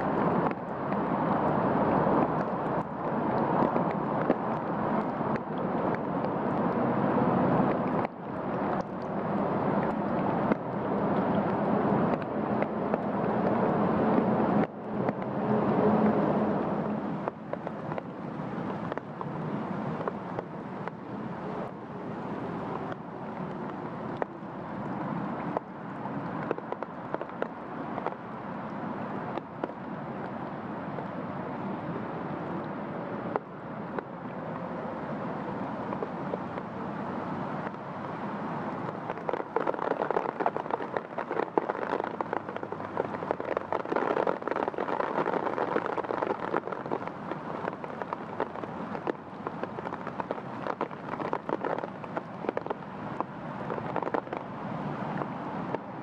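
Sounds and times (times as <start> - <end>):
sharp raindrop taps: 0.0 - 6.8, 7.4 - 30.4, 37.6 - 56.0
steady rain falling: 0.0 - 56.0.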